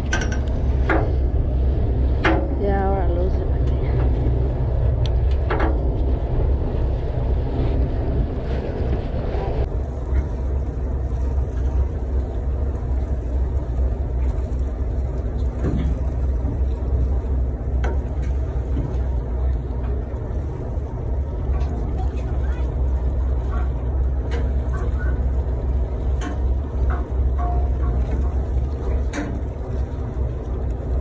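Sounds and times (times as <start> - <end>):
boat engine rumbling: 0.0 - 31.0.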